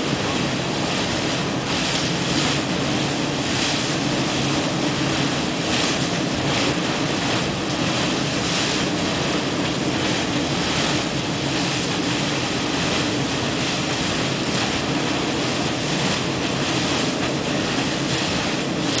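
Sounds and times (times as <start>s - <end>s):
fumarole venting steam under pressure: 0.0s - 19.0s.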